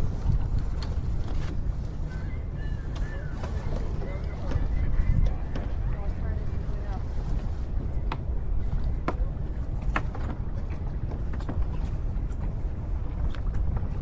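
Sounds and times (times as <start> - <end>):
boat gear clicks and creaks: 0.0 - 2.2, 2.8 - 14.0
wind and water rumble: 0.0 - 14.0.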